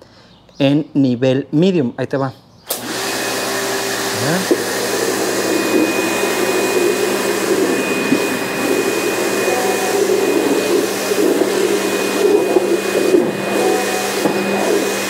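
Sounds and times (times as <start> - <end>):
pressure washer motor hum: 2.7 - 15.0.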